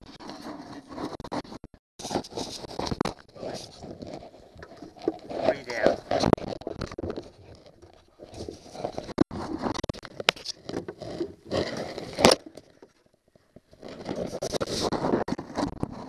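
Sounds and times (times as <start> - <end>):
hands and tools scraping: 0.0 - 16.0.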